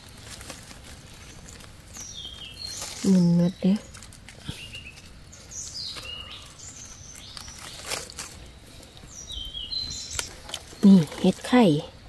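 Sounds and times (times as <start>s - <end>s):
rustling leaf litter and twigs: 0.0s - 12.0s.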